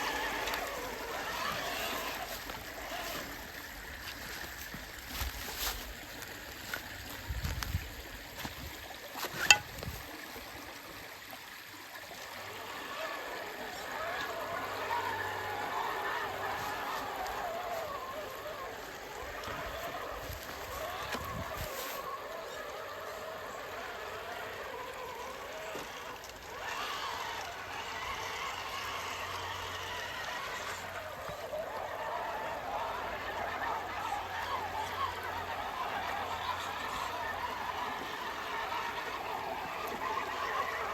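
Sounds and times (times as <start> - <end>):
electric motor whining: 0.0 - 5.9, 12.3 - 40.9
creek water trickling: 0.0 - 40.9.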